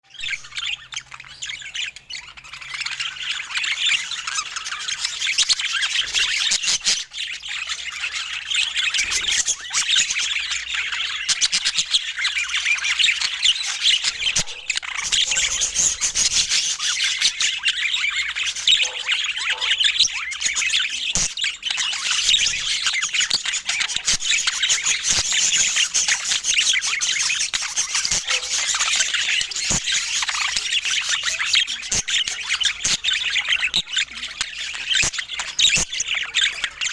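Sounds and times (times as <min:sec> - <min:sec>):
bird squawks: 0:00.0 - 0:36.9
budgerigars chattering: 0:00.1 - 0:36.9.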